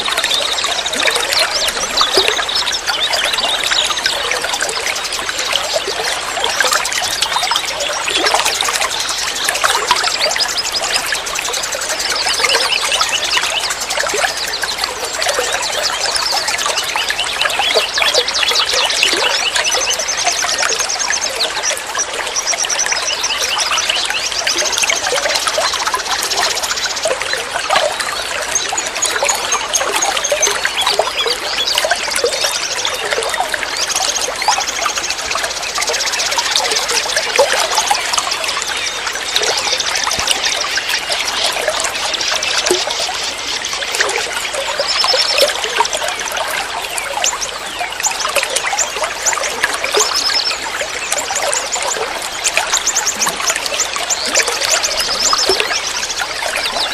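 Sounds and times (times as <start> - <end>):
water trickling and gurgling: 0.0 - 56.9.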